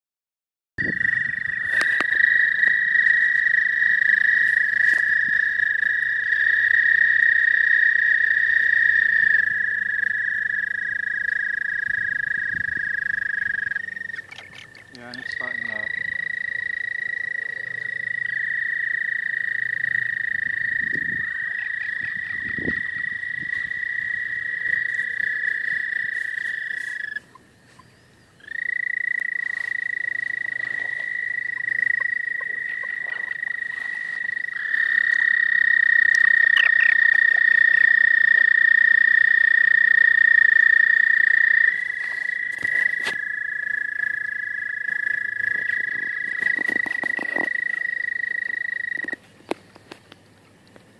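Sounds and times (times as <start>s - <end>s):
toads trilling: 0.8s - 50.0s.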